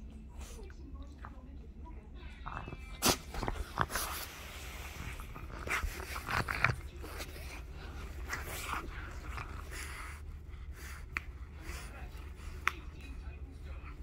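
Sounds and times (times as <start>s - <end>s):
dog chewing plush toy: 2.4s - 14.0s.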